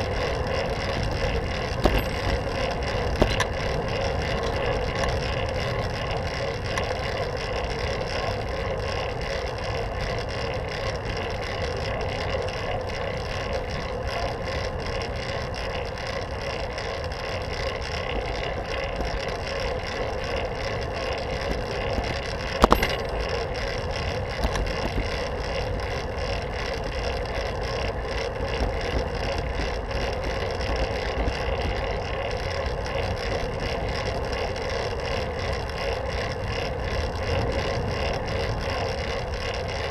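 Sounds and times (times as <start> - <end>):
bicycle tyre and wind noise: 0.0 - 39.9.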